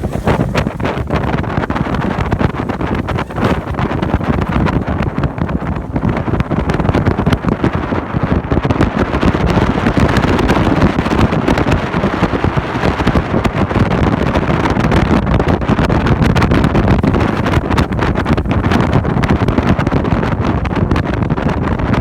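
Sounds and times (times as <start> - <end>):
water rushing: 0.0 - 15.1, 16.0 - 21.4
motorboat engine: 0.0 - 22.0
wind buffeting microphone: 0.0 - 22.0.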